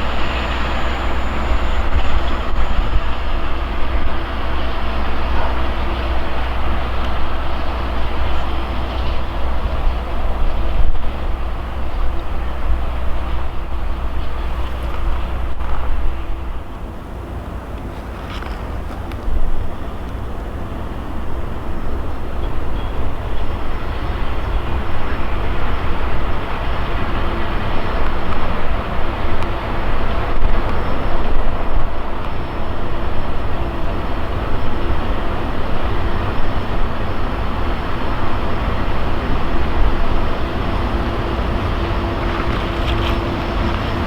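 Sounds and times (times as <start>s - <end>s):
train cars rumbling on track: 0.0s - 44.0s.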